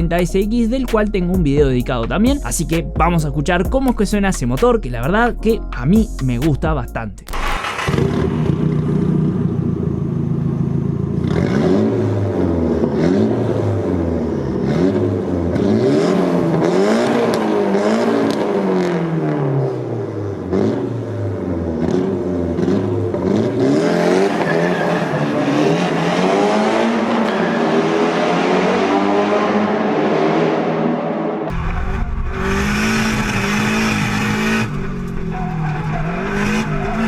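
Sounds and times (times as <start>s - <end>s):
car engine revving: 7.3s - 37.0s.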